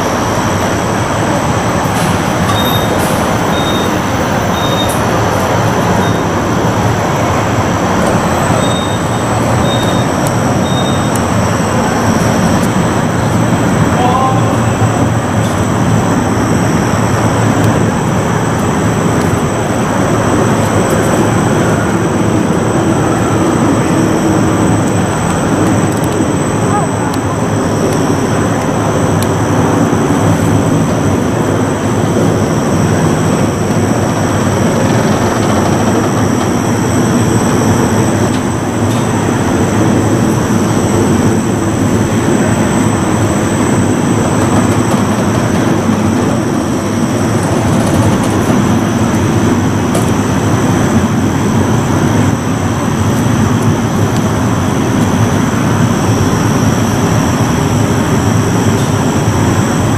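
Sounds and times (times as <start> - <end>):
faint high whine: 0.0 - 59.9
ride machinery rumble: 0.0 - 59.9.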